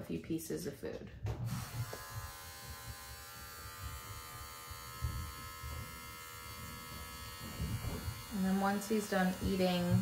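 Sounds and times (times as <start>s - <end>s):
electric hair clippers buzzing: 1.4s - 10.0s.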